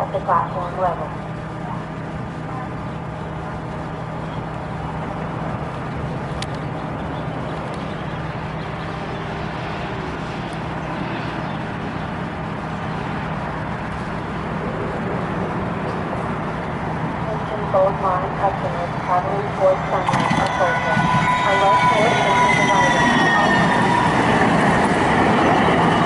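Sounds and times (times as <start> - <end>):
train mechanical hum and rumble: 0.0 - 26.0.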